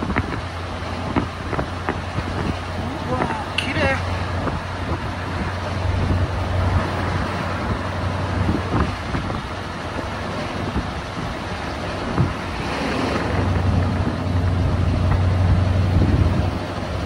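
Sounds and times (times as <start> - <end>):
road noise: 0.0 - 17.0
truck engine drone: 0.0 - 17.0.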